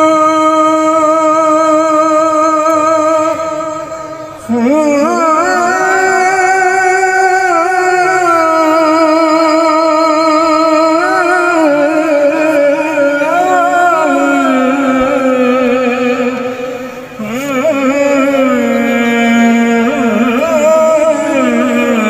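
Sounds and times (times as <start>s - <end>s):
man singing long held notes: 0.0s - 22.0s.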